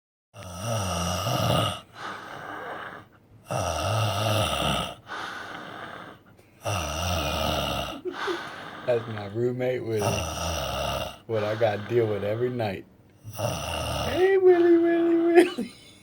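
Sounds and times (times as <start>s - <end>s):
quiet breathing: 0.4s - 15.3s
man snoring: 0.4s - 15.7s.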